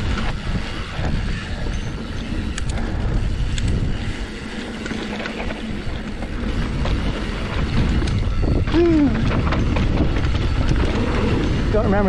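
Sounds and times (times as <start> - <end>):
sharp ticks from bike: 0.0 - 11.8
bike tyres rumbling on dirt: 0.0 - 12.0
wind buffeting microphone: 0.0 - 12.0.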